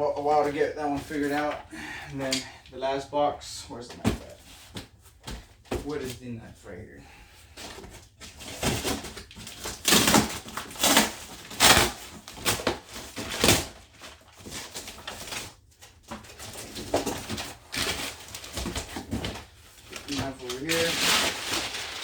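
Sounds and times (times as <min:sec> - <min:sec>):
packaging rustling by hand: 0:00.0 - 0:06.8, 0:07.4 - 0:22.0.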